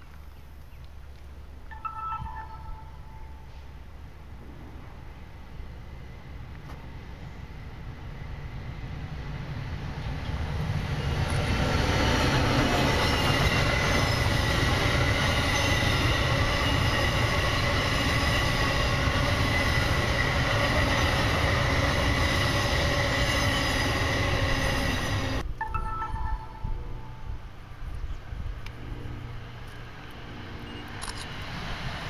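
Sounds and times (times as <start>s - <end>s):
high-pitched train whine: 1.7s - 32.0s
wheels rumbling on rail: 3.2s - 25.4s, 27.0s - 32.0s.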